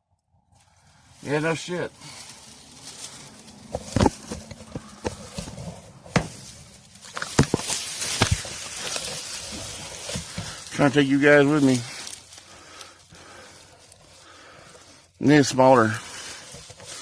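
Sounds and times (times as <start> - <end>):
scraping rustle: 0.5 - 17.0.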